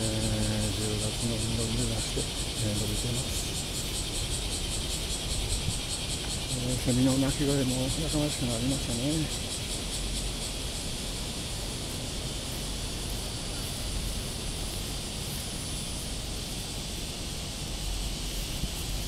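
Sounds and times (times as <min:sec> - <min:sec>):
cicadas chorus: 0:00.0 - 0:19.0.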